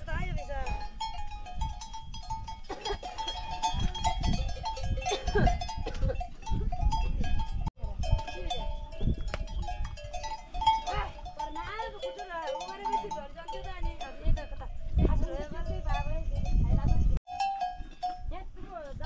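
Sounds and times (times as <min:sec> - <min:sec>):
livestock bells clanking: 0:00.0 - 0:19.0.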